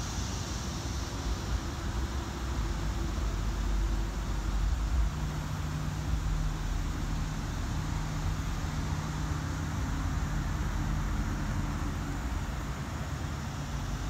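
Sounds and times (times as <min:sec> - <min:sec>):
hiss: 0:00.0 - 0:14.0
steady low hum: 0:00.0 - 0:14.0.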